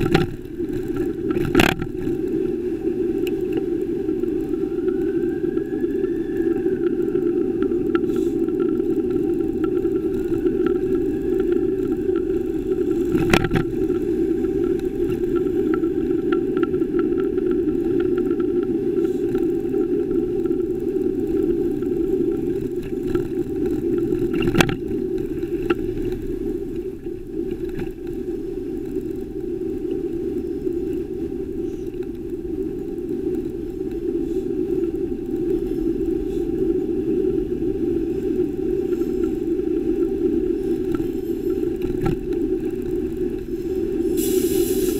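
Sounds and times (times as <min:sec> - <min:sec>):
bicycle road noise rumble: 0:00.0 - 0:44.9.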